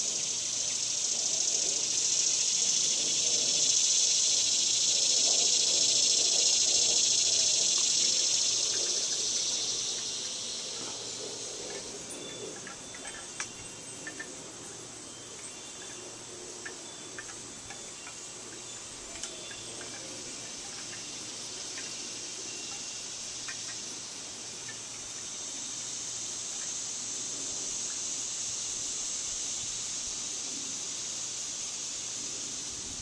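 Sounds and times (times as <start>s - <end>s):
cicada buzzing: 0.0s - 33.0s.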